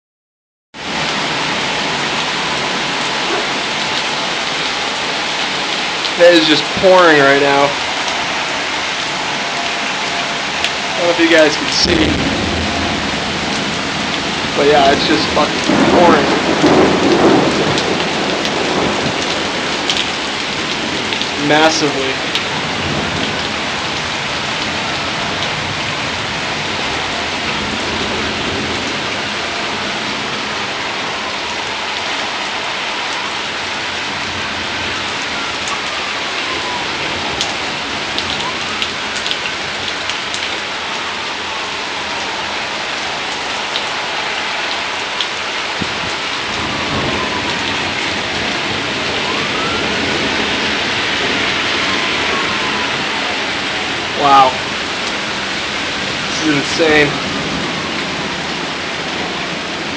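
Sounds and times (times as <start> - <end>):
heavy rain pouring: 0.8 - 59.9.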